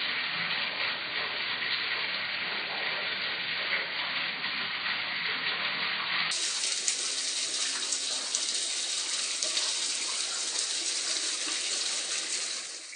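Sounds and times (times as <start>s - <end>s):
water rushing down a vortex: 0.0s - 12.9s.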